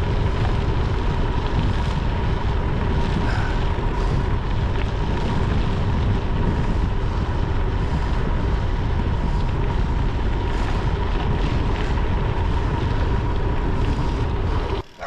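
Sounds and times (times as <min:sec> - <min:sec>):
wind rushing over microphone: 0:00.0 - 0:14.9
tyres rumbling on gravel: 0:00.0 - 0:15.0.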